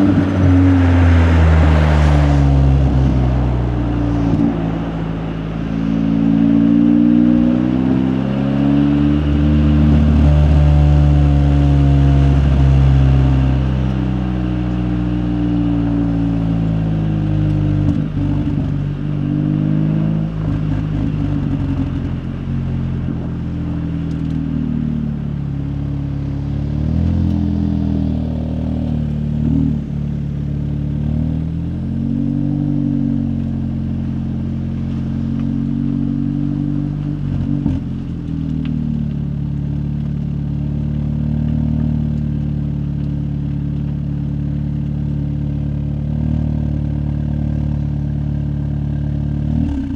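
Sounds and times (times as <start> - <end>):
car engine at low revs: 0.0 - 49.9.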